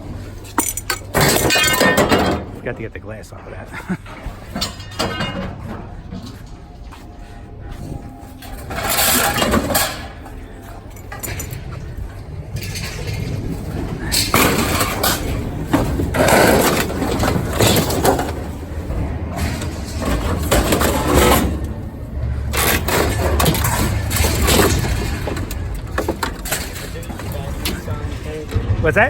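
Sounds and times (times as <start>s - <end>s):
scrap metal clattering: 3.8s - 6.9s, 7.7s - 28.4s.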